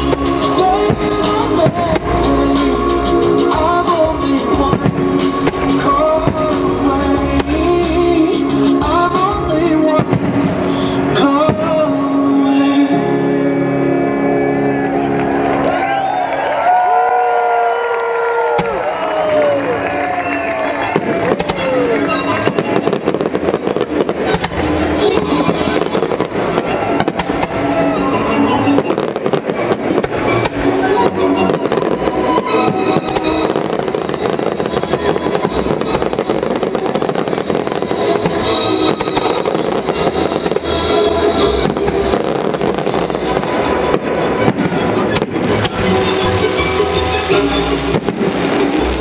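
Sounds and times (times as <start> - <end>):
fireworks bangs: 0.0 - 12.6, 18.3 - 49.0
music playing: 0.0 - 49.0.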